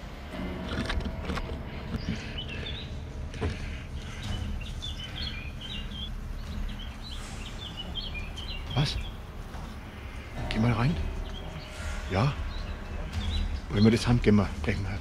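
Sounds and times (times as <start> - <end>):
steady low rumble: 0.0 - 15.0
songbird chirping: 0.1 - 15.0.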